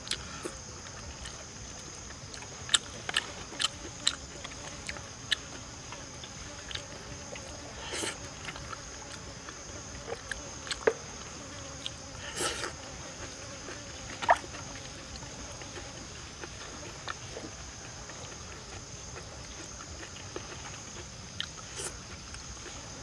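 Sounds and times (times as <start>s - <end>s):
high drone of forest insects: 0.0s - 23.0s.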